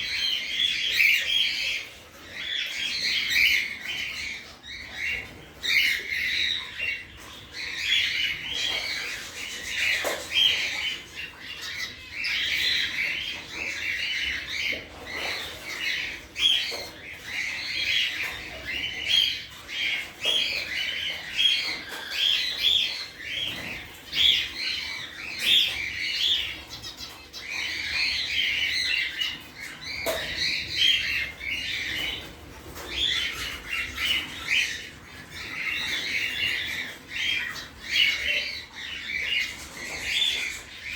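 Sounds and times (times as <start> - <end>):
finches chirping and squawking: 0.0 - 40.9.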